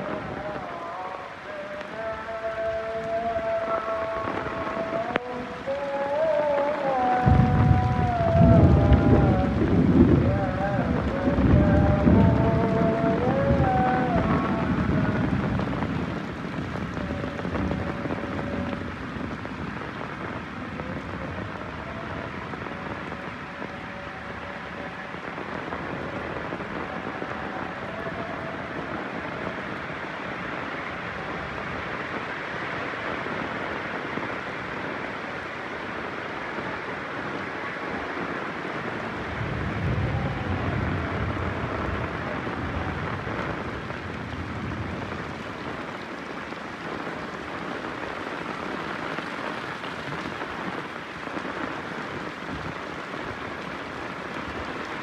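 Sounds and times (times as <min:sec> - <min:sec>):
heavy rain falling: 0:00.0 - 0:55.0
thunder rumbling: 0:02.1 - 0:35.1, 0:35.9 - 0:55.0.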